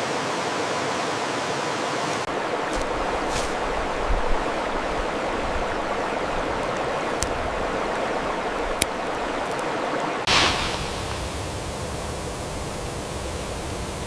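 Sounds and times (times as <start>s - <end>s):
running water rushing: 0.0s - 13.6s.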